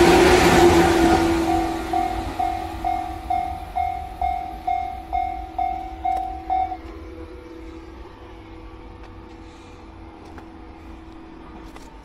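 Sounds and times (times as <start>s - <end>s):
level crossing warning bell: 0.0s - 11.0s
train rumble: 0.0s - 12.0s.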